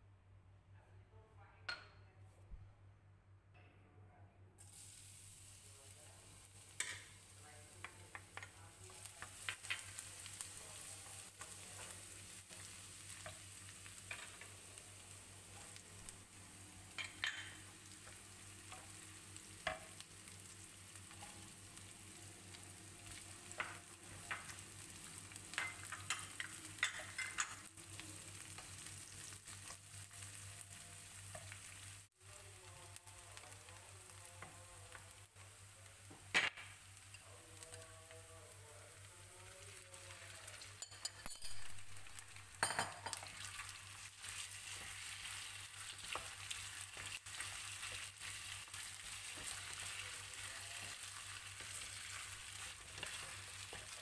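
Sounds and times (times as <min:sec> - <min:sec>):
food sizzling in hot oil: 0:04.6 - 0:54.0.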